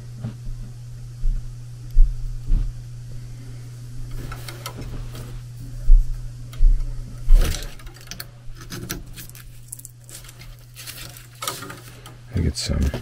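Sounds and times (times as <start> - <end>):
air handler humming: 0.0 - 13.0.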